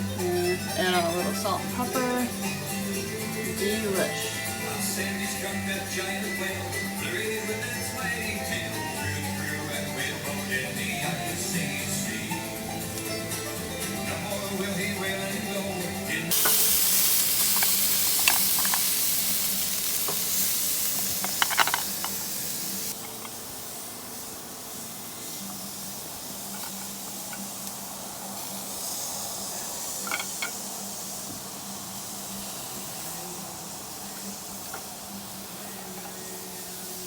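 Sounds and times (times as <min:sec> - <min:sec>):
oysters sizzling on a grill: 0:00.0 - 0:37.0.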